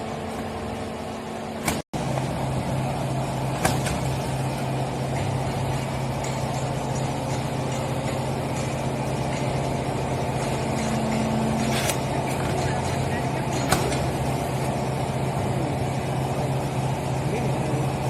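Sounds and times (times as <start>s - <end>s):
hydraulic power unit humming: 0.0s - 18.0s.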